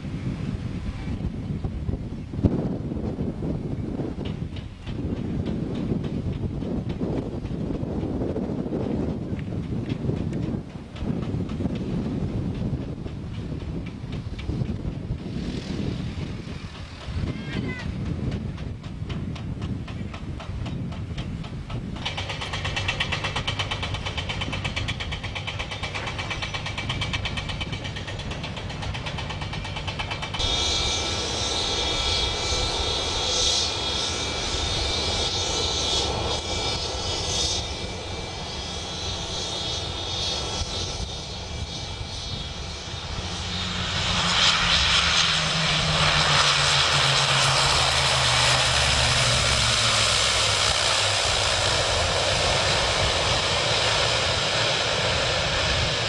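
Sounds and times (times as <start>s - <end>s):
turboprop airliner engine drone: 0.0s - 56.0s.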